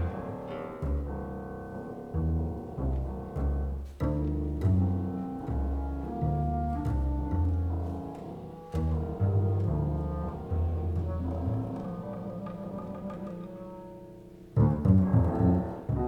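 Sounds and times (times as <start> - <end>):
low double bass notes: 0.0 - 16.0.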